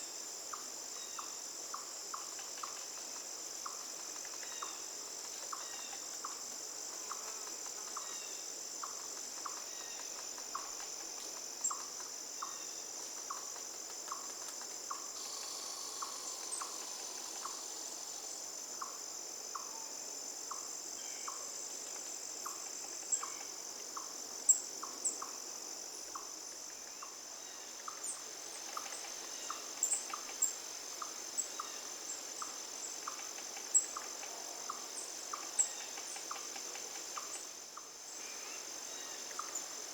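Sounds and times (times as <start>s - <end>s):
insects trilling: 0.0s - 39.9s
lower insect chirp: 0.0s - 39.9s.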